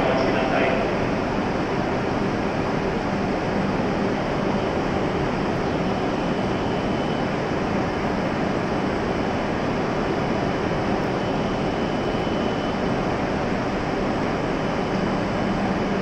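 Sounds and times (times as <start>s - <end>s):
train air-conditioning hum: 0.0s - 16.0s.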